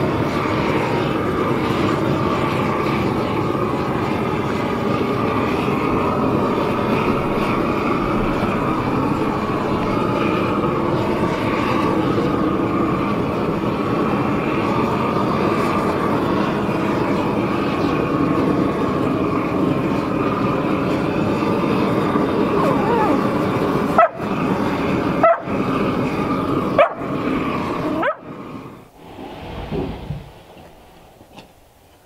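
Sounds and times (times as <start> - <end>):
propane torch burning: 0.0 - 32.0.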